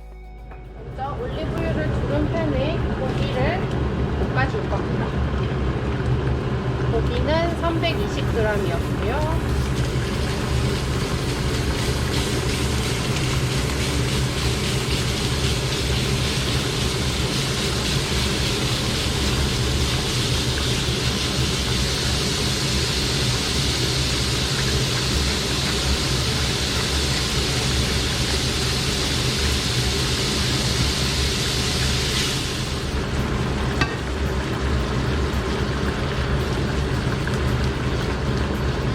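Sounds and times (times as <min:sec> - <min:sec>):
steady low hum: 0:00.0 - 0:38.9
meat sizzling in a frying pan: 0:05.4 - 0:38.9.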